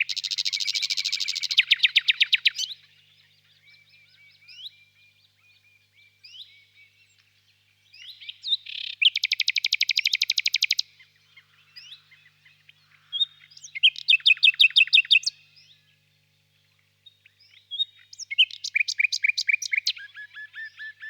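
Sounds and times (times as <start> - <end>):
nightingale singing: 0.0 - 16.1, 17.0 - 21.0.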